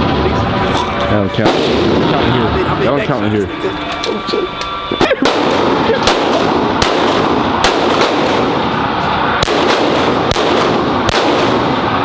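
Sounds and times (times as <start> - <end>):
gunshots: 0.0 - 2.8, 3.6 - 12.0
loud rushing noise: 0.0 - 12.0.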